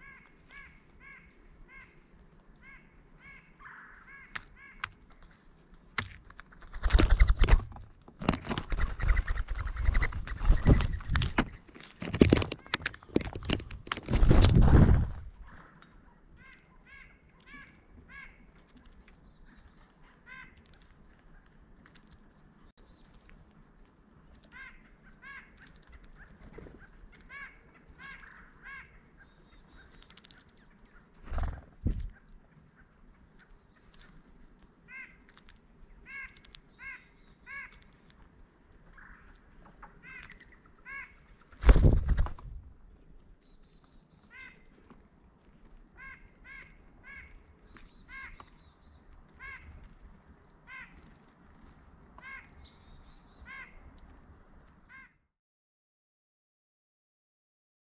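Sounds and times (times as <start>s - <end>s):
birds calling harshly: 0.0s - 5.0s, 8.3s - 22.6s, 24.3s - 42.3s, 43.3s - 44.9s, 45.7s - 55.2s.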